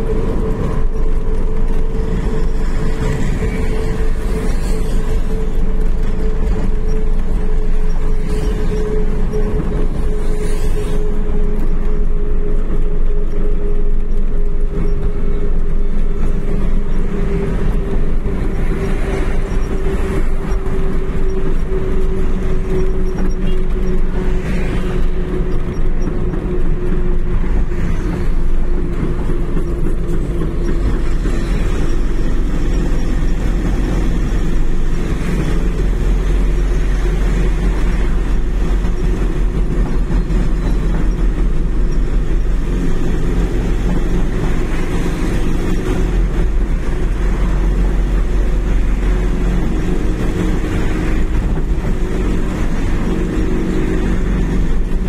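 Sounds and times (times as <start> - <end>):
road rumble: 0.0 - 55.0
vehicle engine drone: 0.0 - 55.0.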